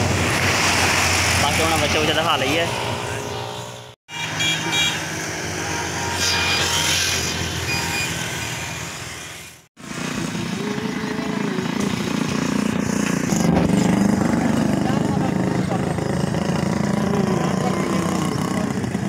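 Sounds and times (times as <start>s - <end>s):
vehicles passing on a road: 0.0s - 19.0s.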